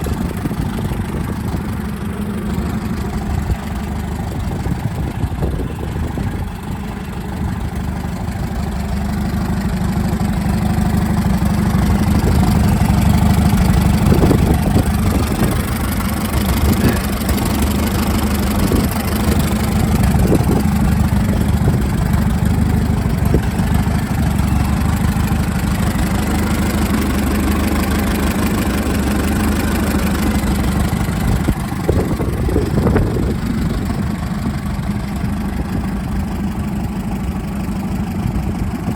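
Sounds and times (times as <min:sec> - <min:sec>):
bulldozer engine running: 0:00.0 - 0:38.9.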